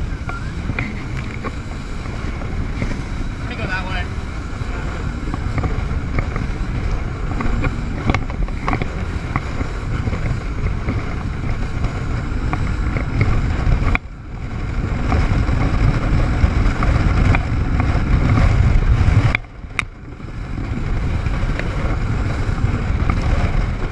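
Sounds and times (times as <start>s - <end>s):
jet ski engine rumble: 0.0s - 23.9s
rushing water: 0.0s - 23.9s
wind buffeting microphone: 0.0s - 23.9s.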